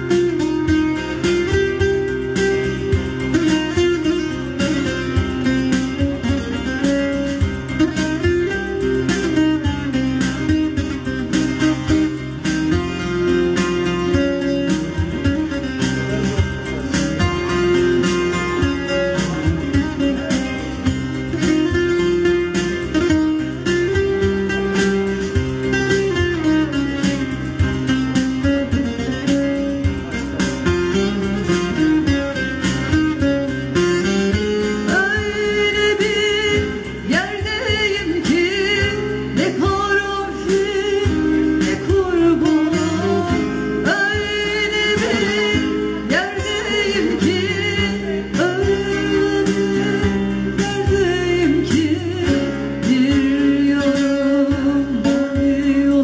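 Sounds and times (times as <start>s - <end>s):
instrumental music with plucked strings: 0.0s - 56.0s.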